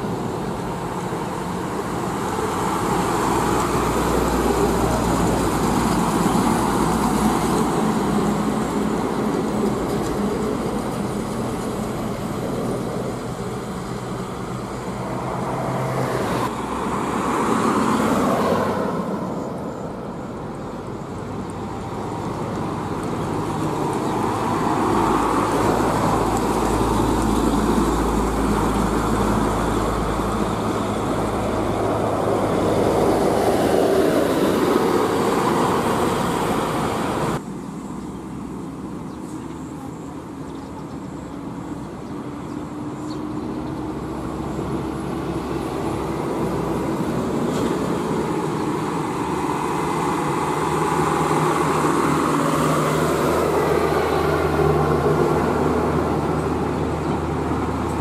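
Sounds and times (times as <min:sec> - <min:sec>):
traffic passing on road: 0:00.0 - 0:58.0.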